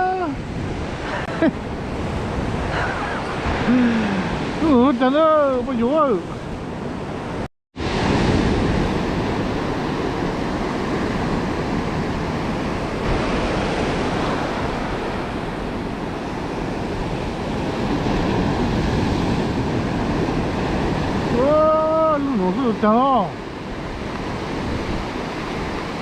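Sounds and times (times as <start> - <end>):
ocean surf washing onto beach: 0.0 - 26.0
wind rumbling on microphone: 0.0 - 26.0.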